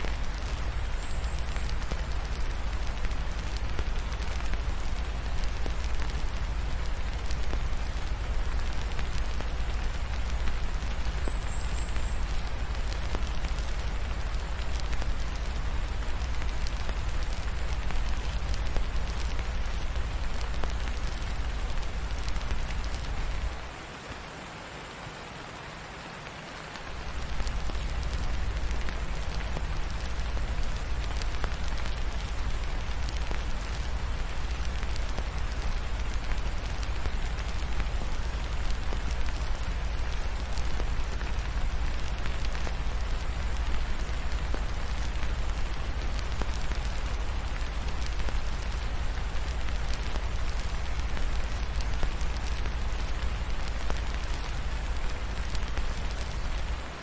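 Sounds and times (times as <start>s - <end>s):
crackling fireplace: 0.0s - 57.0s
steady rain: 0.0s - 57.0s.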